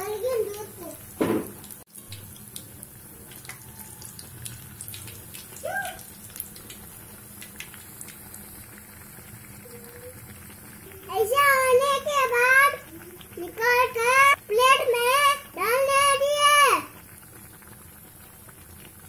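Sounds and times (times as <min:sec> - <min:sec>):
hot oil sizzling and popping: 0:00.0 - 0:19.0.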